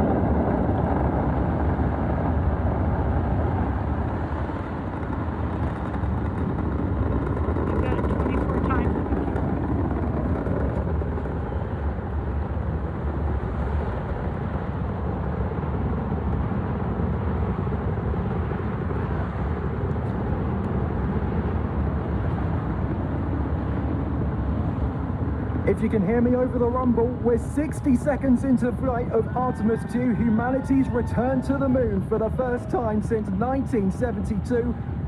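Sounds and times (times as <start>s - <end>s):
rocket engines deep rumble: 0.0s - 35.0s.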